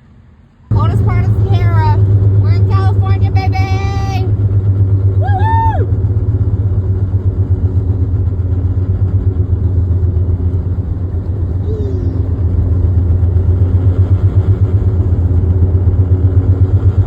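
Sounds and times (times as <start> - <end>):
car driving on snow chains: 0.7 - 17.0.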